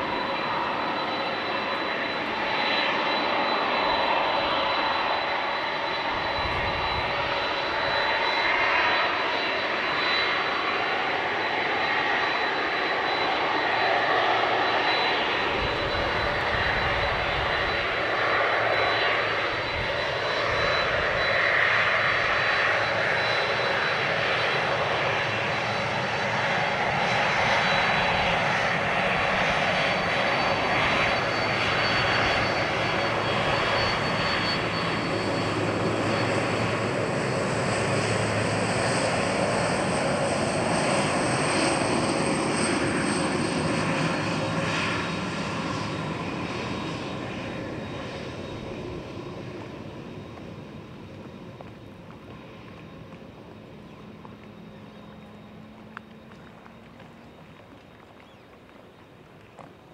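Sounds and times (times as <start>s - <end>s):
high whining jet tones: 0.0s - 59.9s
jet engines rushing: 0.0s - 59.9s.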